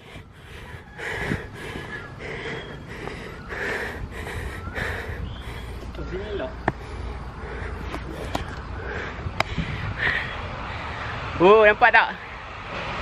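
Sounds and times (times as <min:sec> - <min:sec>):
person breathing heavily: 0:00.0 - 0:11.4.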